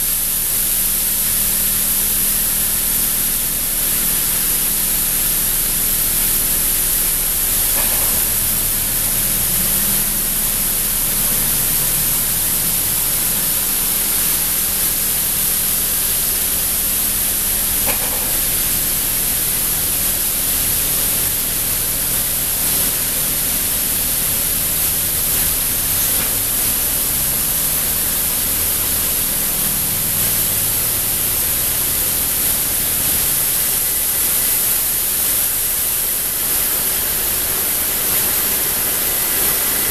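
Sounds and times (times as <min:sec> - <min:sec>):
spinning brushes machine hum: 0:00.0 - 0:39.9
water jets spraying: 0:00.1 - 0:39.9.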